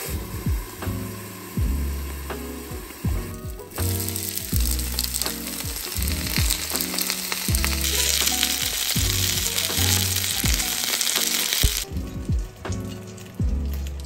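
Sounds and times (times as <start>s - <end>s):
background music with plucked notes: 0.0s - 14.0s
dumplings sizzling in a frying pan: 0.0s - 14.0s.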